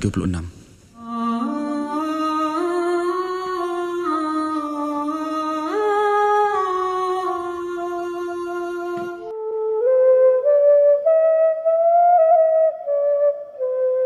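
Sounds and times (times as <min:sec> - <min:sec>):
eerie wordless hummed melody: 0:01.0 - 0:13.3.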